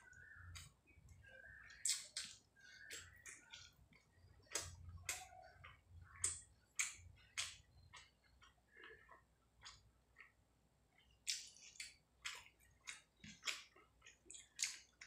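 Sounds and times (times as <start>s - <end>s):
close chewing mouth clicks: 1.7s - 15.0s.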